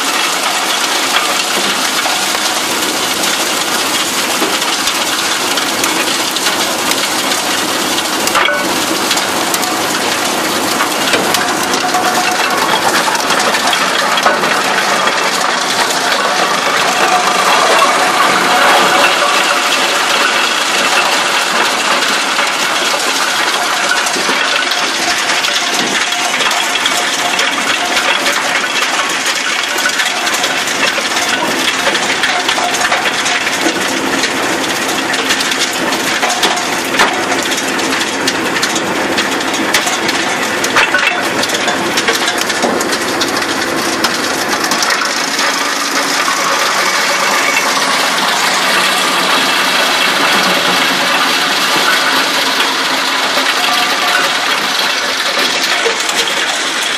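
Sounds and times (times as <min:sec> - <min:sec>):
wood chipper shredding branches: 0:00.0 - 0:56.9.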